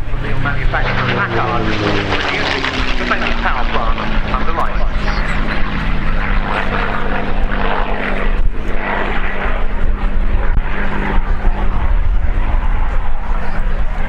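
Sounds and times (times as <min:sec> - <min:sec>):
aircraft engine drone: 0:00.0 - 0:14.0
propeller noise: 0:00.0 - 0:14.0.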